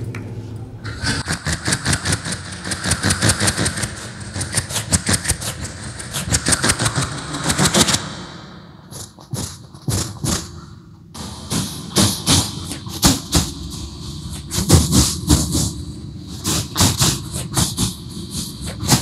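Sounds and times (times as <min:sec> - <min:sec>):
vocal train chugging imitation: 0:00.8 - 0:19.0.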